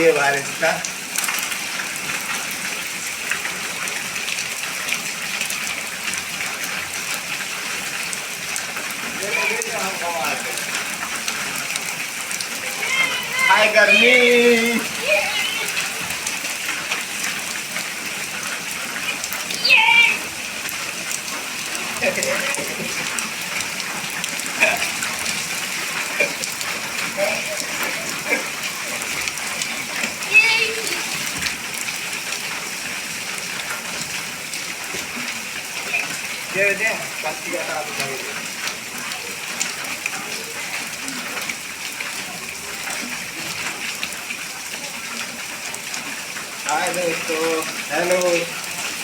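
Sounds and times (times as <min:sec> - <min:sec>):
rain falling: 0:00.0 - 0:49.0
raindrop ticks: 0:00.0 - 0:49.0.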